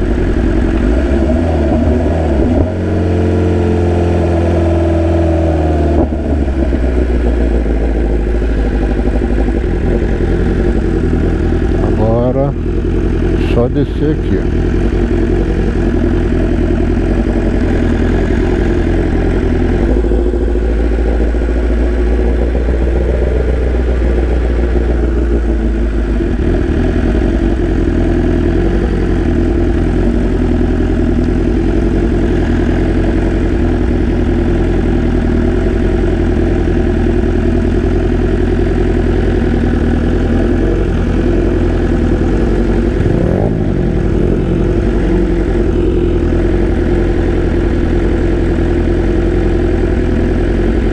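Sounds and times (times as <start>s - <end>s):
motorcycle engine running at low revs: 0.0s - 50.9s.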